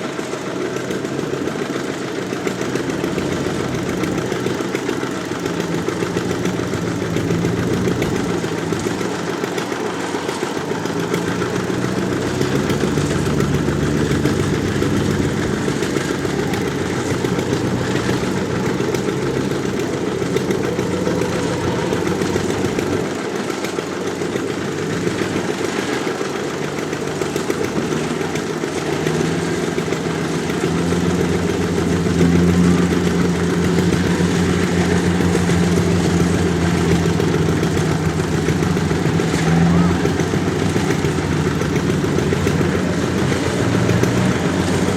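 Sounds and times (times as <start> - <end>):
combine harvester diesel engine: 0.0 - 44.9.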